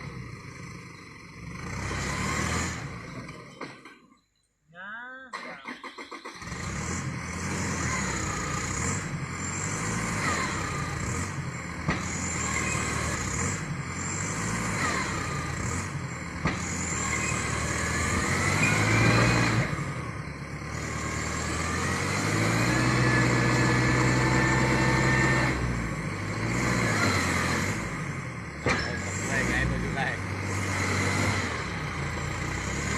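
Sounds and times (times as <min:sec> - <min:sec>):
vehicle engine under load: 0:00.0 - 0:04.5, 0:05.3 - 0:32.9.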